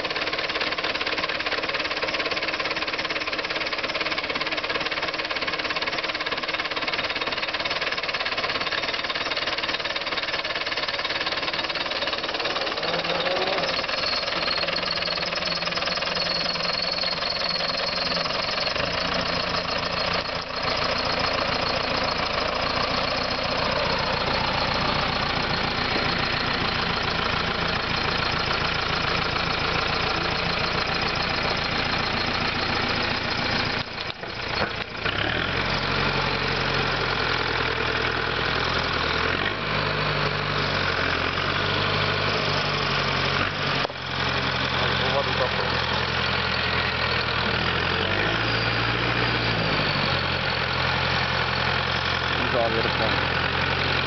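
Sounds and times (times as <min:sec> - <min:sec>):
tractor diesel engine clattering: 0:00.0 - 0:54.0.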